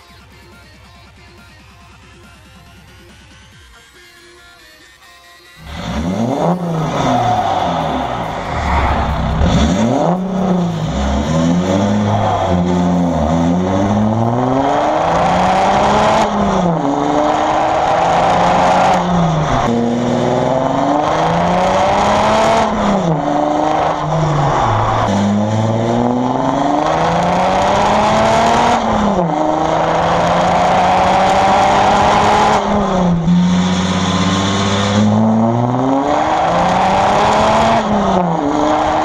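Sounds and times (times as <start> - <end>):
car exhaust accelerating: 5.6 - 39.0
wind and road noise: 6.2 - 39.0.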